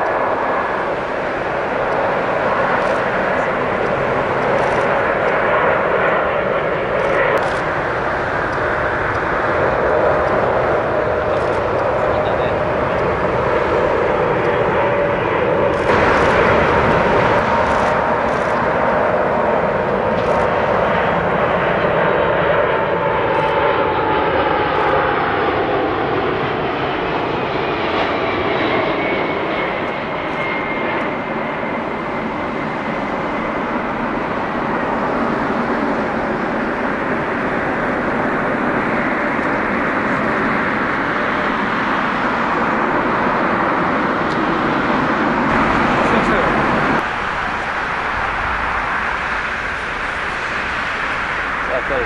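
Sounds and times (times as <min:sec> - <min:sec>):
jet engine whine: 0:00.0 - 0:52.0
jet engines roaring: 0:00.0 - 0:52.0.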